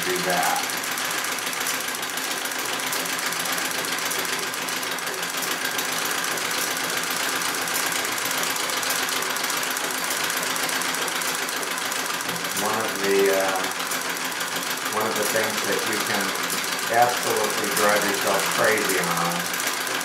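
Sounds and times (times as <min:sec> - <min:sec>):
treadle sewing machine stitching: 0:00.0 - 0:20.0.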